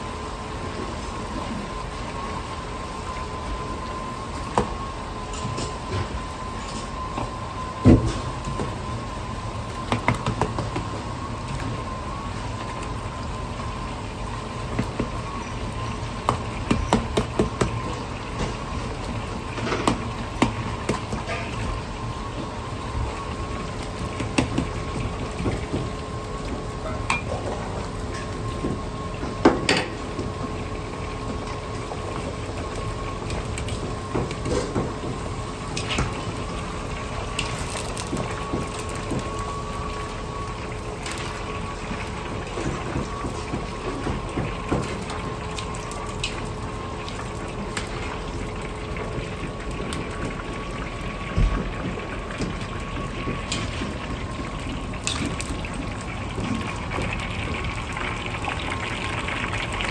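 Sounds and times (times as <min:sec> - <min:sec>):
oil bubbling and sizzling: 0:00.0 - 0:59.9.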